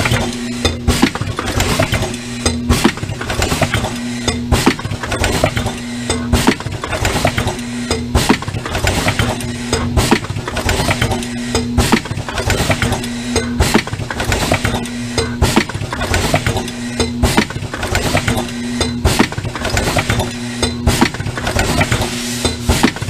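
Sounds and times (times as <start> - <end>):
machine clacking: 0.0 - 23.0
machine hum: 0.0 - 23.0.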